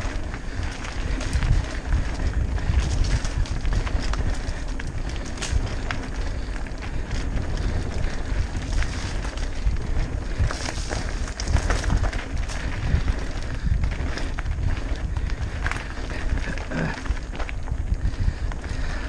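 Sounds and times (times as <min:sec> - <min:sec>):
bike clicks and rattles: 0:00.0 - 0:19.0
tyre rumble: 0:00.0 - 0:19.0
wind rushing over microphone: 0:00.0 - 0:19.0.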